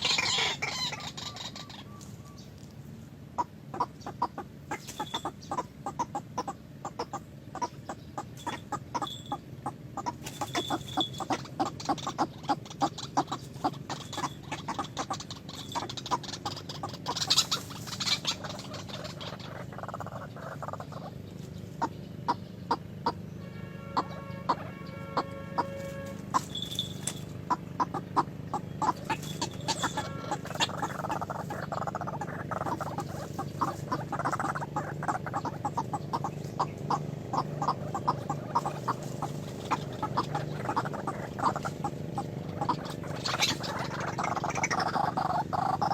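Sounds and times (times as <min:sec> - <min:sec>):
chickens clucking: 0:00.0 - 0:45.9
steady low hum: 0:00.0 - 0:45.9.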